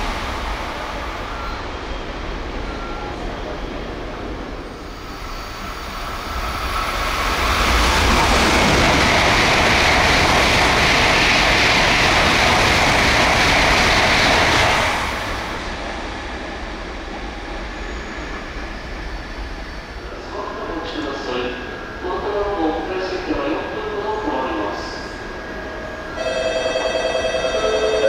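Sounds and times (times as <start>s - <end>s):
high-speed train passing: 0.0s - 28.0s.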